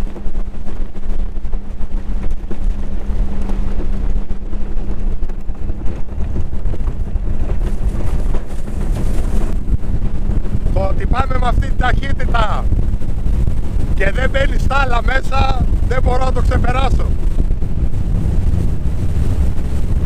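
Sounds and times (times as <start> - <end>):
outboard engine hum: 0.0 - 20.0
wind buffeting microphone: 0.0 - 20.0.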